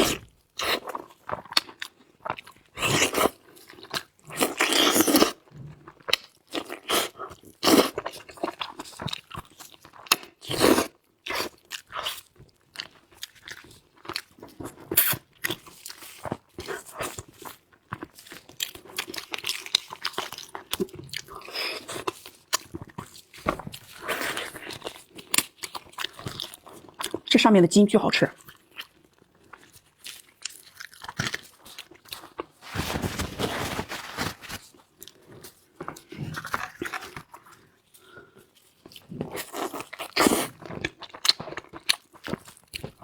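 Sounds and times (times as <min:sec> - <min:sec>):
chewing meat: 0:00.0 - 0:27.3, 0:28.4 - 0:34.0, 0:34.7 - 0:43.0.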